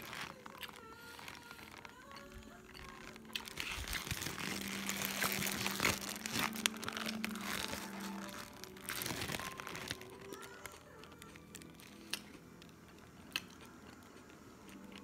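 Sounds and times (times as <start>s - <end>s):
paper wrapper crinkling: 0.0s - 12.6s.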